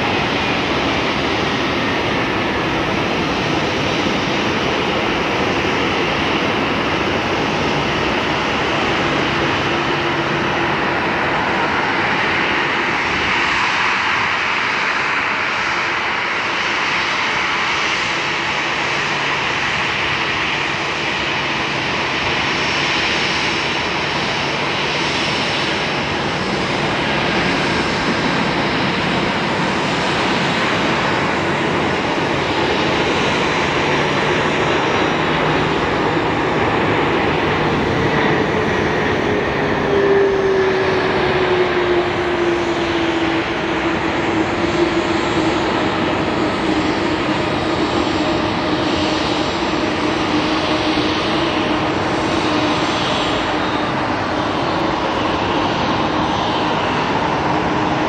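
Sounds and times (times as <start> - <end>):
jet engine whine: 0.0 - 58.0
jet engines roaring: 0.0 - 58.0.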